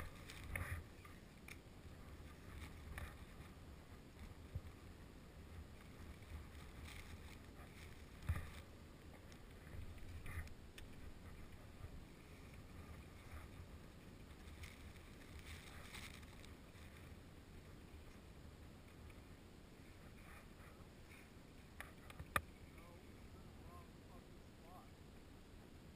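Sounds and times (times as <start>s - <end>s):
light rustles: 0.0s - 23.2s
faint low wind rumble: 0.0s - 25.9s.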